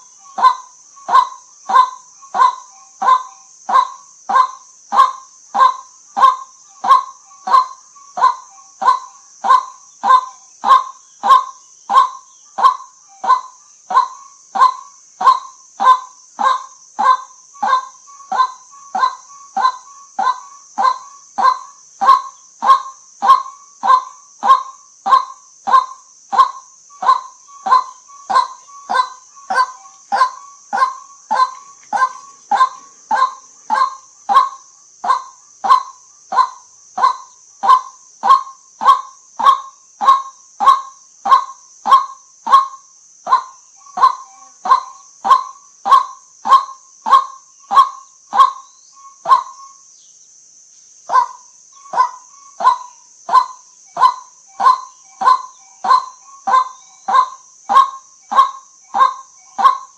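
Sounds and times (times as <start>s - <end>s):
waterhen calling: 0.0s - 42.7s, 43.3s - 49.7s, 51.1s - 59.9s
faint high hiss: 0.0s - 59.9s.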